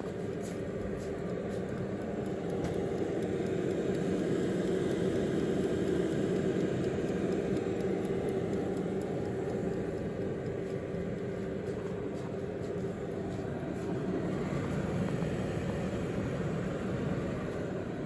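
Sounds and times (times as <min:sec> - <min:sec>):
air fryer fan whirring: 0:00.0 - 0:18.0.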